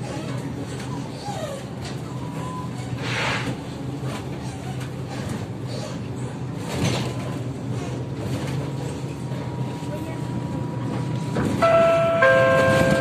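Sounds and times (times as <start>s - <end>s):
trolleybus electric hum: 0.0s - 13.0s.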